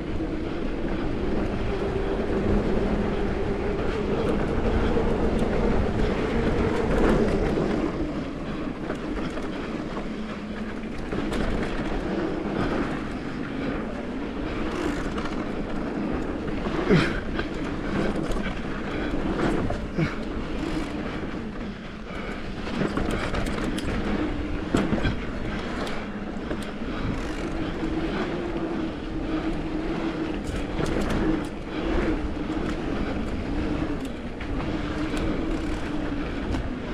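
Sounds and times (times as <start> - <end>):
bike rattling: 0.0 - 36.9.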